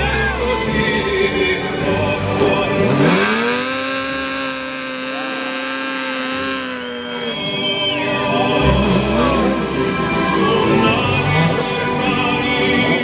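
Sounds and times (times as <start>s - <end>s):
motorcycle engine revving: 1.8s - 13.0s.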